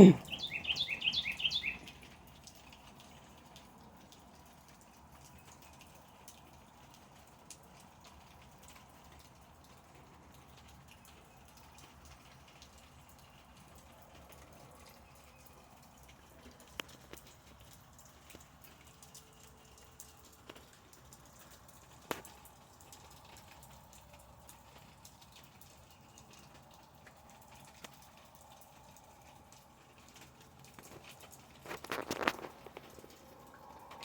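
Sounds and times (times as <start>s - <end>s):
birds pecking taps and clicks: 0.2s - 34.0s.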